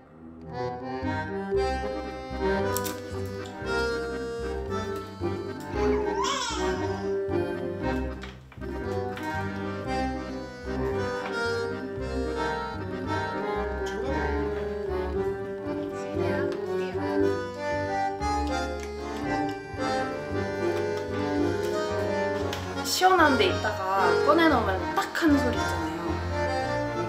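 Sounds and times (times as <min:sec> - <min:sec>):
instrumental melody of held notes: 0:00.0 - 0:27.0.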